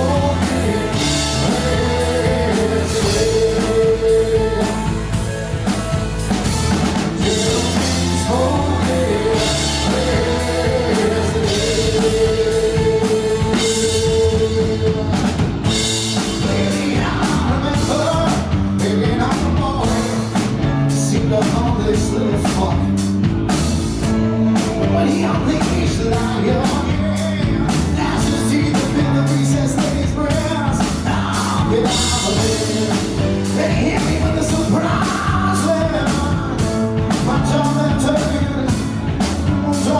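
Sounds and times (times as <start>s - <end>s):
man singing: 0.0s - 5.3s, 7.0s - 23.1s, 24.2s - 39.9s
drums hitting hard: 0.0s - 39.9s
rock band playing: 0.0s - 39.9s.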